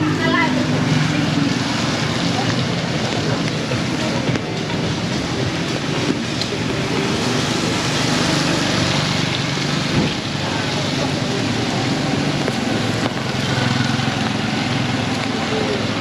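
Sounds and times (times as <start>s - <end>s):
heavy rain pouring: 0.0s - 16.0s
low vehicle engine hum: 0.0s - 16.0s.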